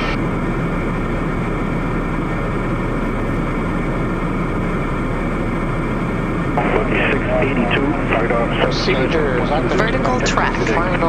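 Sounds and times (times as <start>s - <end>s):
turboprop engine drone in cockpit: 0.0s - 11.0s.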